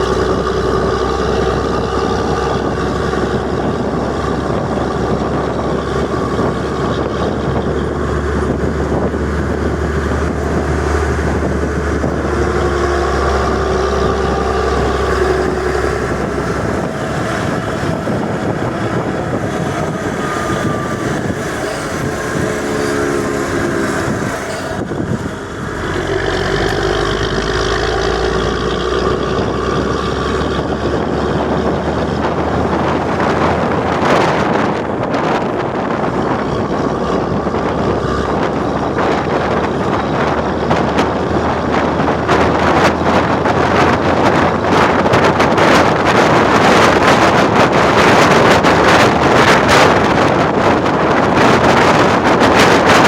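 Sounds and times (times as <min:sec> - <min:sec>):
bus diesel engine running: 0:00.0 - 0:53.0.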